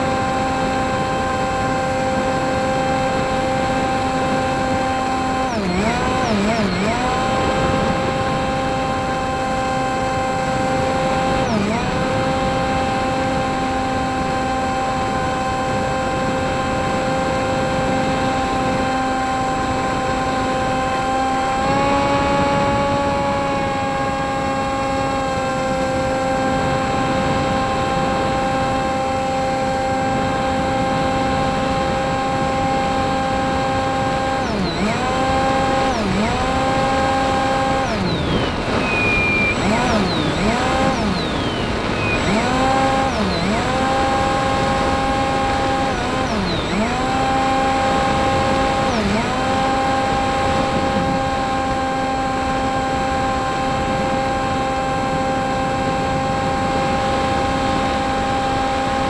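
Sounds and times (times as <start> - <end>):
model plane motor whine: 0.0 - 59.0
rushing wind: 0.0 - 59.0.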